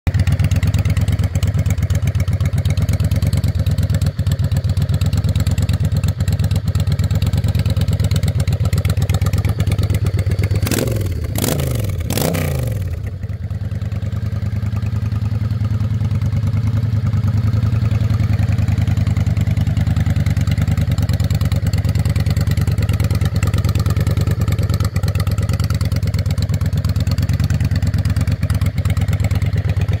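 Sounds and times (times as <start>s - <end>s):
motorcycle engine idling: 0.1s - 30.0s.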